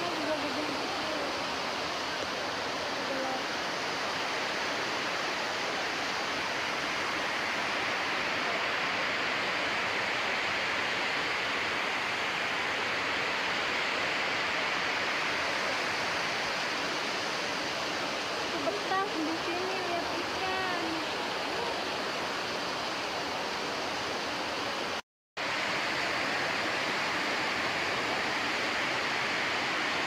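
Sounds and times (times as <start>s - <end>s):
waterfall pouring over rocks: 0.0s - 30.0s.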